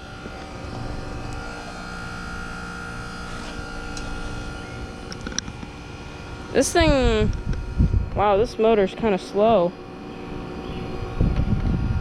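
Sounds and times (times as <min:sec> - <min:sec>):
compressor and fan motor tones: 0:00.0 - 0:12.0
heat pump electrical hum: 0:00.0 - 0:12.0.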